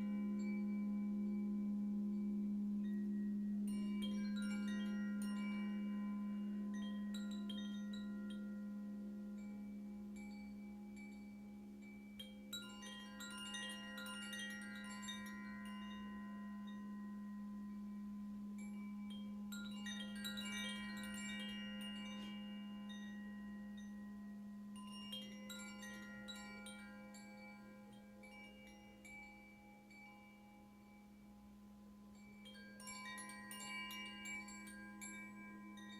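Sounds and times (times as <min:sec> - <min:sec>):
wind chimes ringing: 0:00.0 - 0:35.9.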